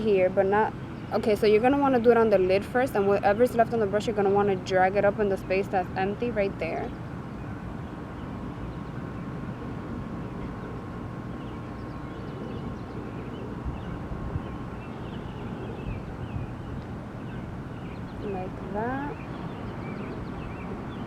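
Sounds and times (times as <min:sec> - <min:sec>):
low rumble of distant traffic: 0:00.0 - 0:21.0.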